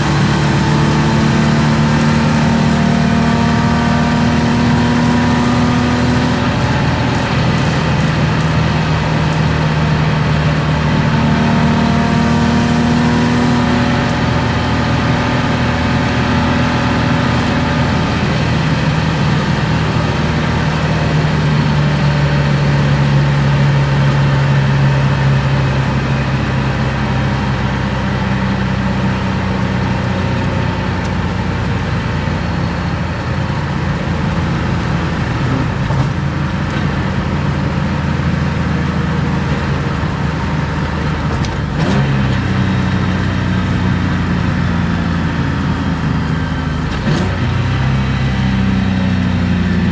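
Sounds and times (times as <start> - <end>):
car engine running steadily: 0.0 - 49.9
road noise inside car: 0.0 - 49.9.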